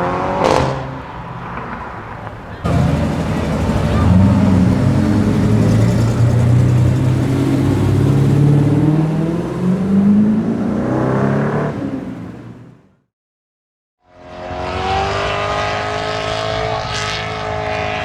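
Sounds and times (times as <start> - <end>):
car engine revving: 0.0 - 12.8, 14.2 - 18.0.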